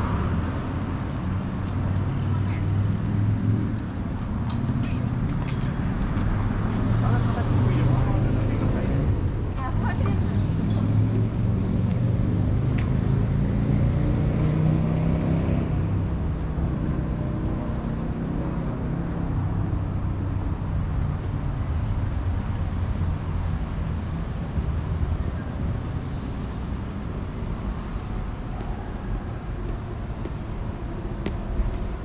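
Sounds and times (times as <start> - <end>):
city traffic noise: 0.0 - 32.0
passing vehicle engine drone: 0.0 - 32.0.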